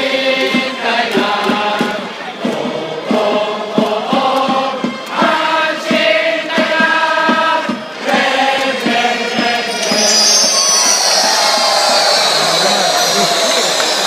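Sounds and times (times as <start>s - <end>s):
stadium crowd singing in unison: 0.0s - 14.0s
steady drum beat: 0.0s - 14.0s.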